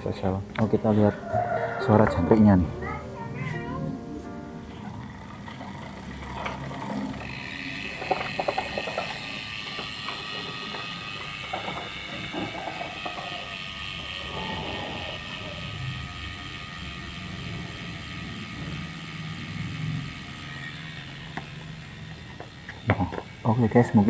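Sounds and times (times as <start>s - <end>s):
bicycle freehub ticking: 4.7s - 24.0s.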